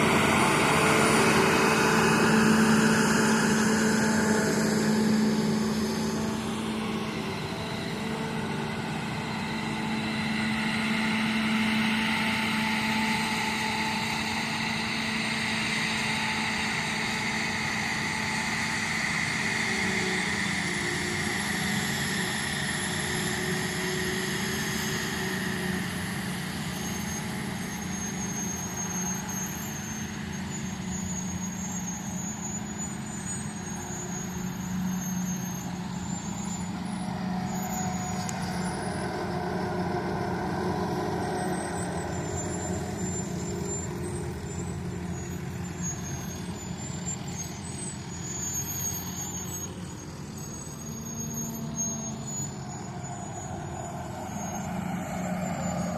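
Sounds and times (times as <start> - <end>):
faint high whines: 0.0 - 55.9
heavy farm machinery engines: 0.0 - 55.9.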